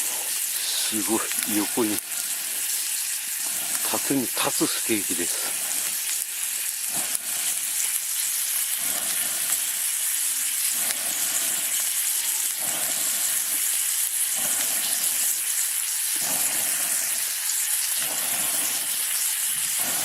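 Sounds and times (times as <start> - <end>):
steak sizzling: 0.0 - 20.0.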